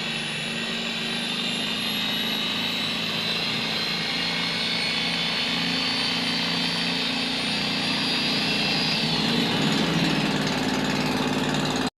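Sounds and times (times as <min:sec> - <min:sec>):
angle grinder whining: 0:00.0 - 0:11.9.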